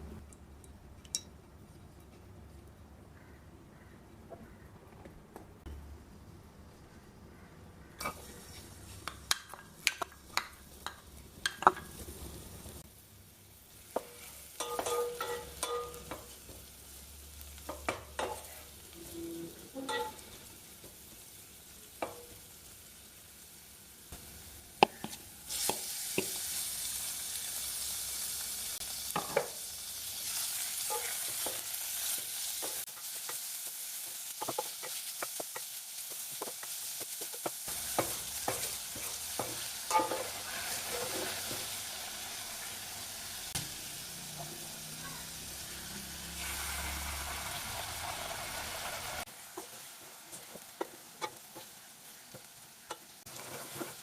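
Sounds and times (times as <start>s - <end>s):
food sizzling in oil: 8.0s - 54.0s.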